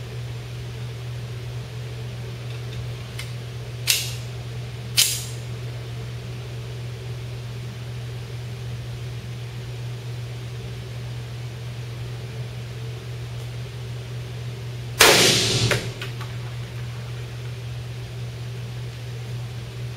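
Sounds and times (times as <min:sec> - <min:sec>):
fan hum: 0:00.0 - 0:19.9.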